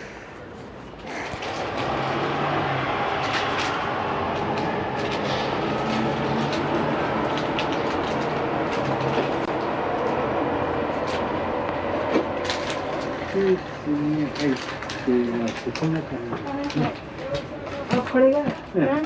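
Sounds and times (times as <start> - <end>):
train wheels rumbling: 1.0 - 19.0.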